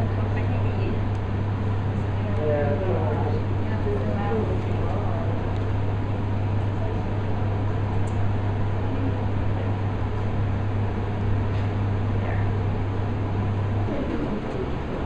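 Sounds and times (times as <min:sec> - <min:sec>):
air conditioning hum and hiss: 0:00.0 - 0:15.0.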